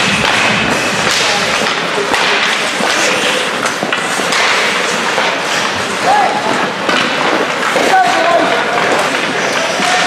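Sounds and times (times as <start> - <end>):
hockey sticks clacking: 0.0 - 10.0
skates scraping ice: 0.0 - 10.0.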